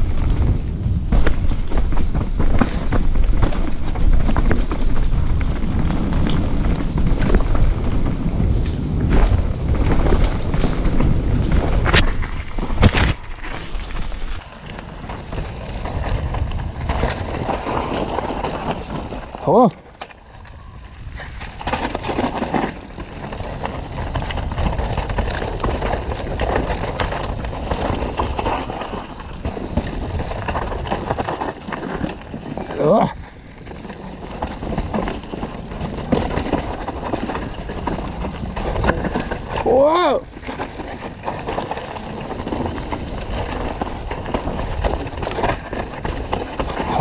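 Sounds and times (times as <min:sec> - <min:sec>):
bike rattling: 0:00.0 - 0:47.0
bike tyres rumbling over dirt: 0:00.0 - 0:47.0.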